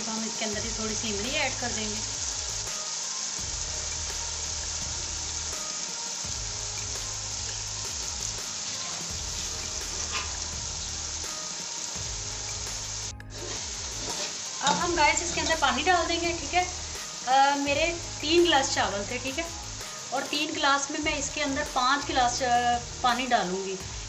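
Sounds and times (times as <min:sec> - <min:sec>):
masala sizzling in oil: 0:00.0 - 0:24.0.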